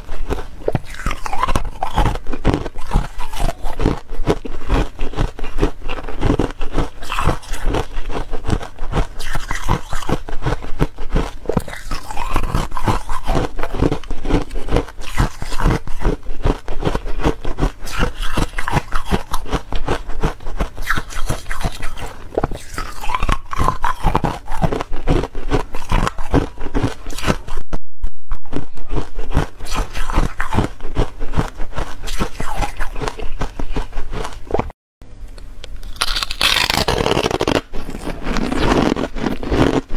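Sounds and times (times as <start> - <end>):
ice being chewed: 0.0 - 27.7, 28.4 - 34.7, 35.7 - 39.9.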